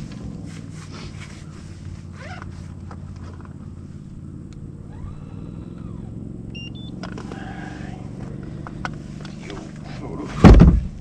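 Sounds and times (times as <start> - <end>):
boat motor droning: 0.0 - 10.3.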